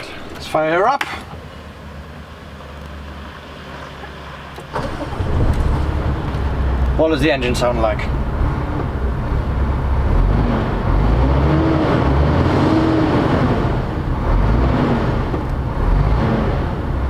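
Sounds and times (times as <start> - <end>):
truck diesel engine rumbling: 0.0 - 17.0.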